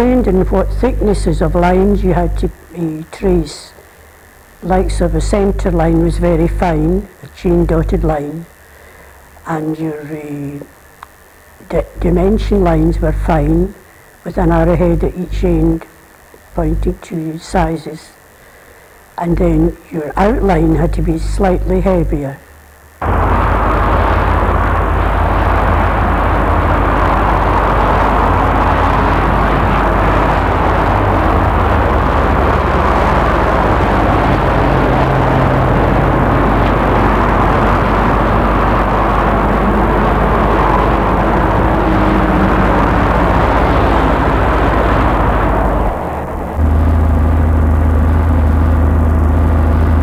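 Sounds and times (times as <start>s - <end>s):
motorway traffic: 0.0s - 17.7s, 22.6s - 50.0s
steady low hum: 0.0s - 50.0s.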